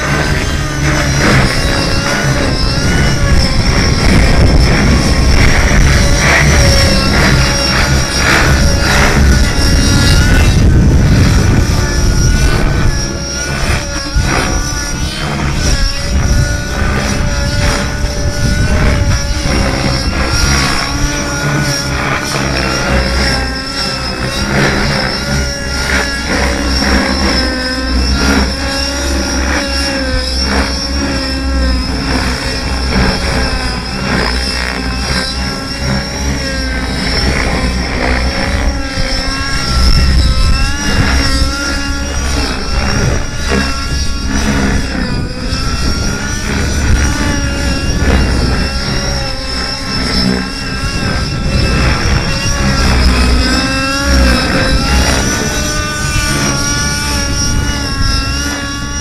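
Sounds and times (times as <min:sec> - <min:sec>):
model helicopter engine: 0:00.0 - 0:59.0
steady high whine: 0:00.0 - 0:59.0.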